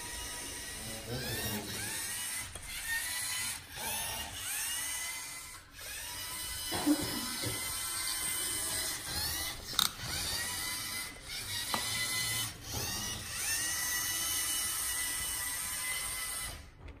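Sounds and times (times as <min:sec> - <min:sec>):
robot motors whining: 0:00.0 - 0:17.0.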